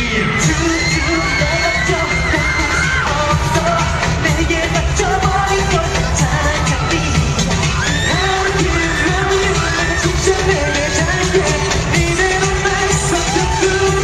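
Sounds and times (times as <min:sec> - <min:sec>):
pop dance song live: 0:00.0 - 0:14.0.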